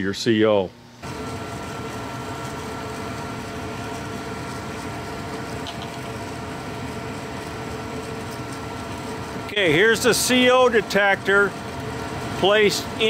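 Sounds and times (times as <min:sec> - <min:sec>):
gas furnace motor hum: 0:00.0 - 0:13.0.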